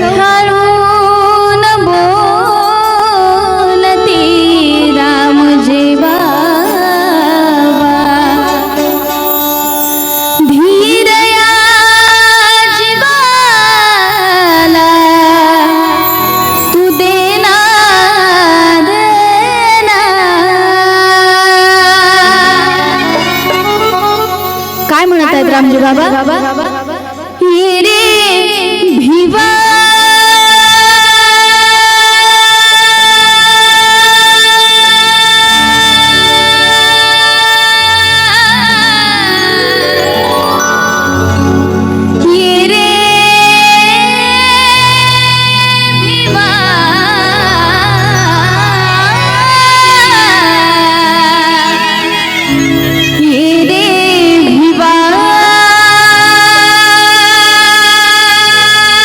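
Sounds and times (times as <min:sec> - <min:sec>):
high singing voice: 0:00.0 - 0:59.0
musical accompaniment: 0:00.0 - 0:59.0.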